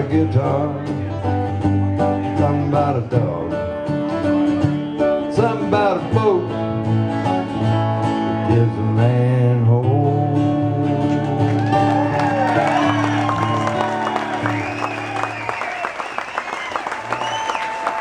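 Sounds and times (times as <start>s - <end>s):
acoustic guitar music: 0.0s - 15.1s.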